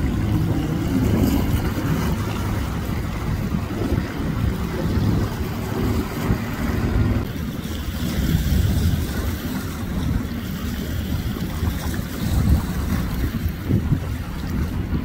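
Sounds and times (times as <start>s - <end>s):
distant jet ski engines: 0.0s - 15.0s
wind buffeting microphone: 0.0s - 15.0s.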